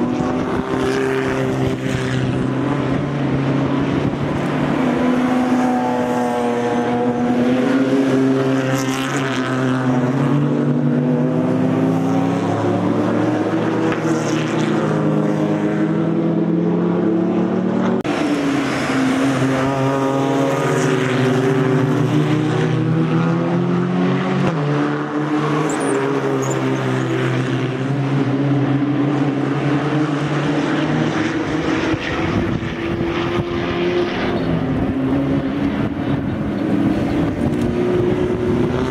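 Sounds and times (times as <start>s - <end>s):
race car engines at full throttle: 0.0s - 38.9s.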